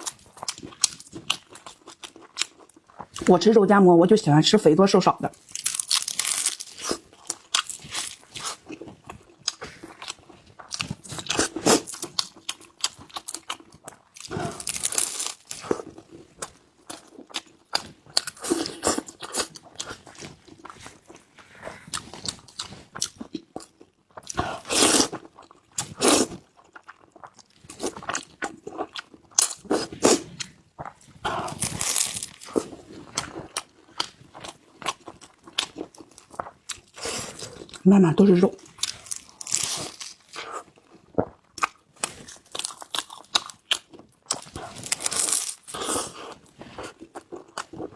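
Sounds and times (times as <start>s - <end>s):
person chewing crunchy food: 0.0s - 3.3s, 5.3s - 37.8s, 38.5s - 47.9s.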